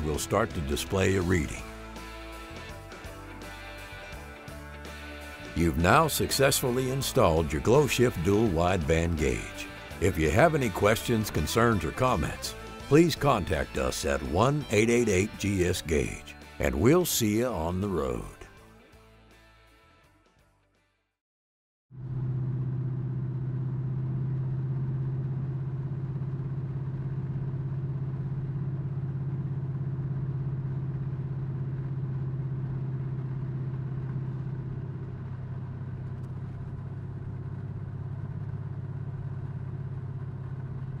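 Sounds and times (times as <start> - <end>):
car engine running steadily: 0.0 - 18.3, 22.0 - 41.0.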